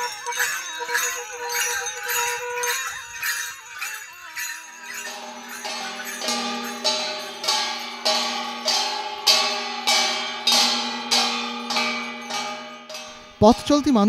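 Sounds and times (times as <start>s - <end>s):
metal bells struck in steady beat: 0.0s - 14.0s.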